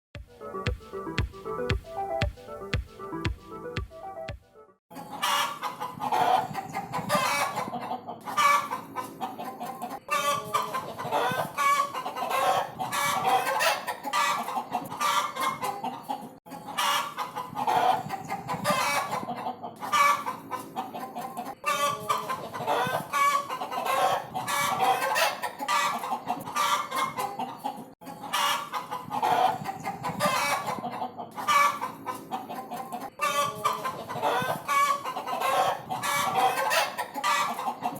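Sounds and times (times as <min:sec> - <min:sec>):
chickens clucking: 0:00.3 - 0:37.9.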